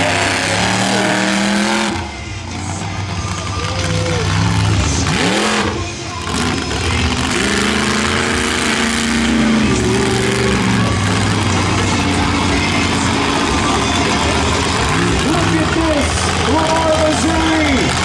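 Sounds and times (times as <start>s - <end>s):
monster truck engine revving: 0.0s - 18.0s.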